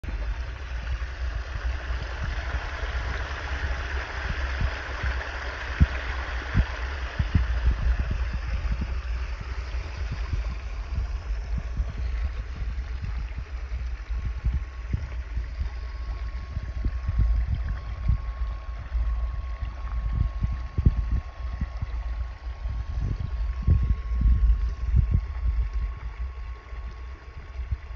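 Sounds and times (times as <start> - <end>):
steady high whine: 0.0 - 27.9.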